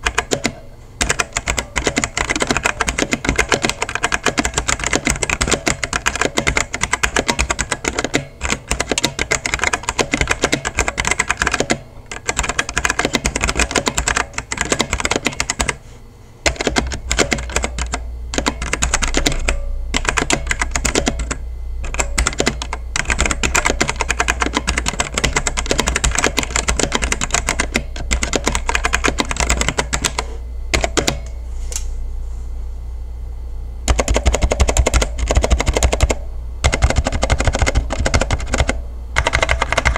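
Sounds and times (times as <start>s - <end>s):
mechanical keyboard typing: 0.0s - 15.8s, 16.5s - 31.3s, 33.9s - 39.9s.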